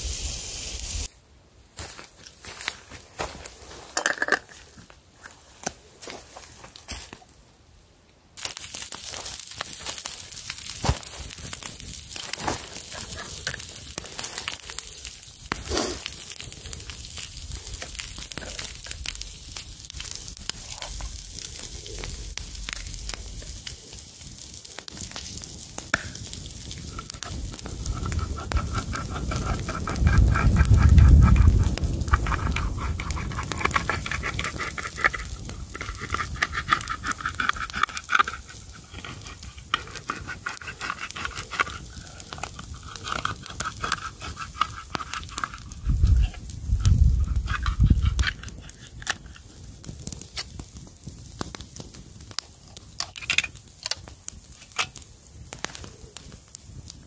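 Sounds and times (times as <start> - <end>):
campfire crackling: 0.0 - 57.0
logs popping: 2.5 - 7.2, 8.4 - 57.0.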